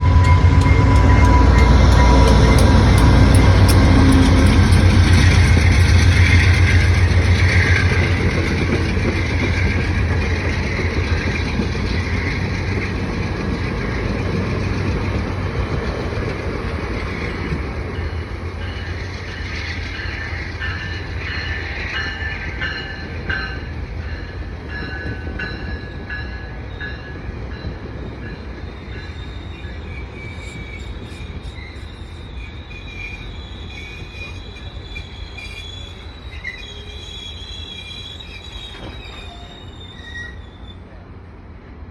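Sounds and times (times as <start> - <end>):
wheels squealing on rails: 0.0 - 41.4
diesel train rumbling: 0.0 - 41.9.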